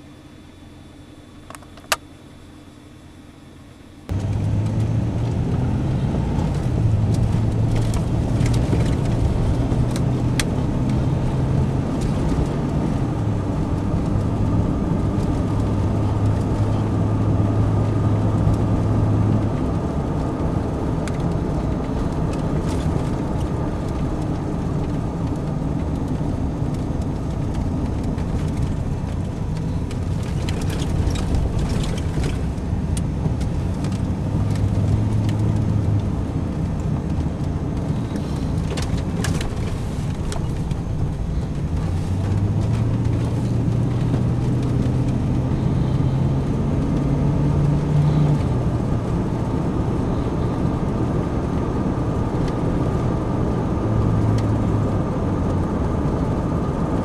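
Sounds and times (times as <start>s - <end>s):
car engine hum: 0.0s - 57.0s
tyre and road rumble: 4.1s - 57.0s.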